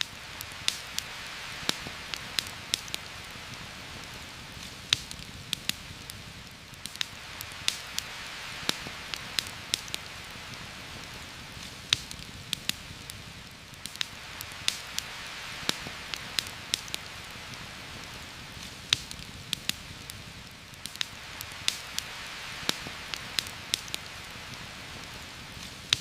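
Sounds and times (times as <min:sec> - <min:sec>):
heavy rain hiss: 0:00.0 - 0:26.0
sharp pops and ticks: 0:00.0 - 0:26.0.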